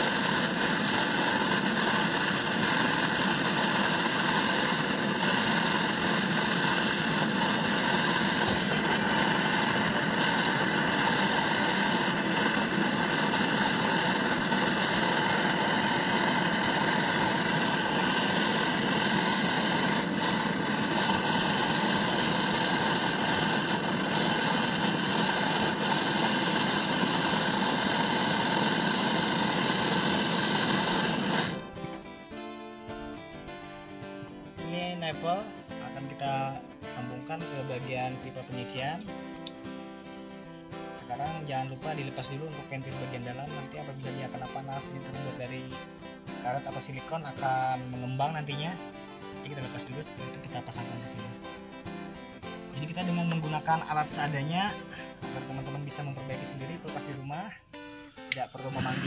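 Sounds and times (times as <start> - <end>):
gas torch hissing: 0.0 - 31.9, 34.3 - 39.6, 41.0 - 46.0, 52.4 - 59.0.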